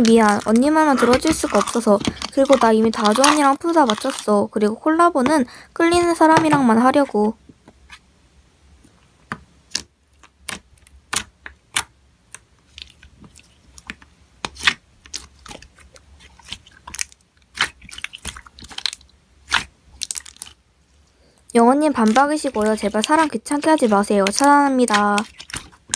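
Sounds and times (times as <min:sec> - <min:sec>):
slime squishing: 0:00.0 - 0:08.0, 0:09.7 - 0:20.6, 0:21.5 - 0:25.9.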